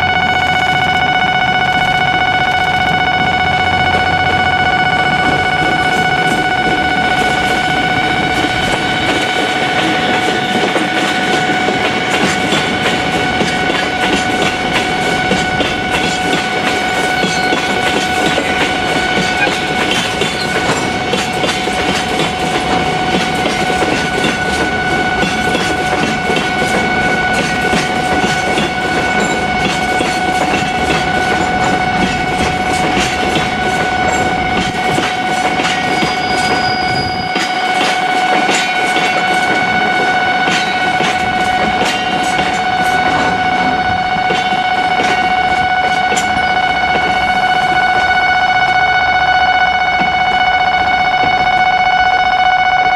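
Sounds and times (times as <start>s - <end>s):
freight train wheels clacking: 0.0s - 52.5s
steady high ringing tone: 0.0s - 52.9s.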